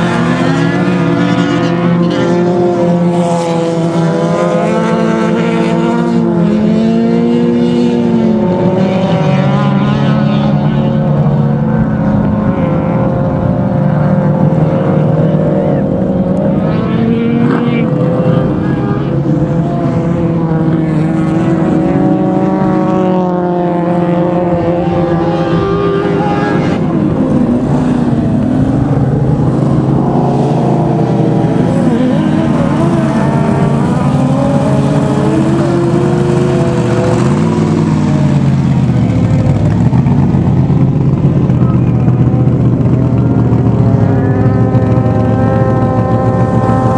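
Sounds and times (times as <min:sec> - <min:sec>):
race car engines: 0:00.0 - 0:46.9.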